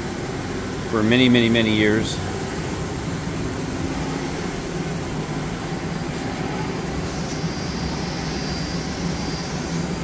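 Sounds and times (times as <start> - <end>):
faint high whine: 0.0 - 10.0
machine hum and whir: 0.0 - 10.0.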